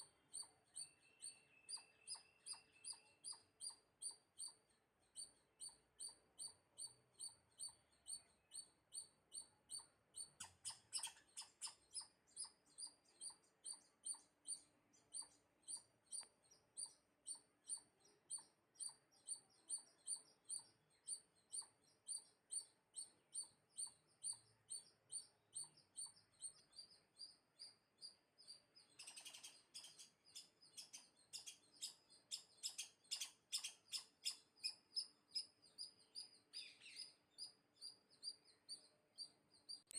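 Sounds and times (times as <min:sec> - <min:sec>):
high-pitched chirping calls: 0:00.0 - 0:39.9.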